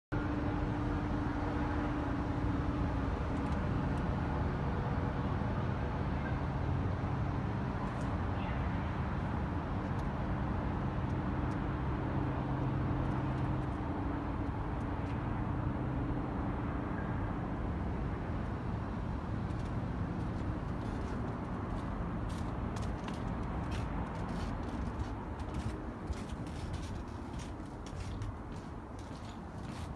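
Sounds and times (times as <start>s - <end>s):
distant traffic: 0.2s - 29.9s.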